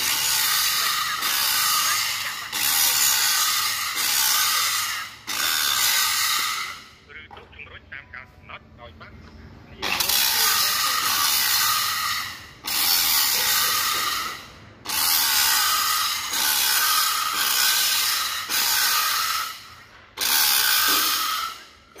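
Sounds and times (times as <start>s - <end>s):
angle grinder grinding steel: 0.0s - 7.0s, 9.8s - 22.0s.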